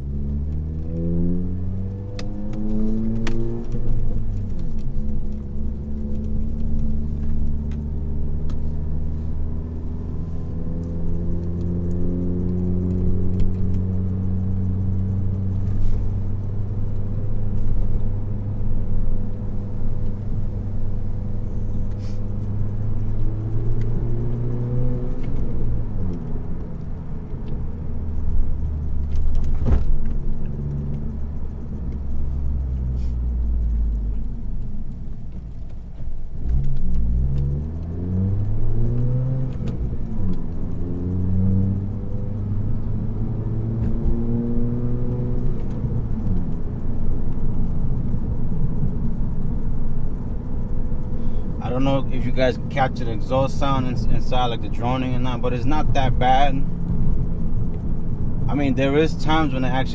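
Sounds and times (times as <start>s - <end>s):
car exhaust drone from inside cabin: 0.0s - 59.9s.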